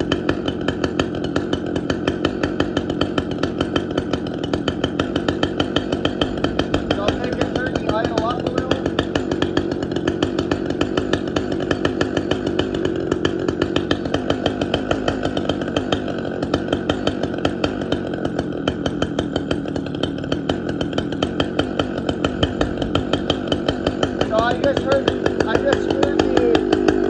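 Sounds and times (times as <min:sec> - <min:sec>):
chainsaw engine idling unevenly: 0:00.0 - 0:27.0.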